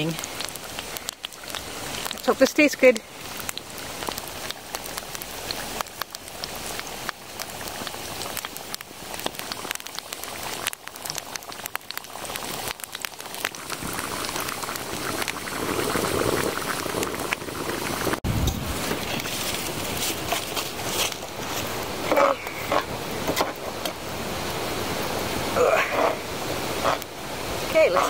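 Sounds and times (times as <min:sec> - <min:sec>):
campfire crackling: 0:00.0 - 0:28.0
pot boiling and bubbling: 0:00.0 - 0:28.0.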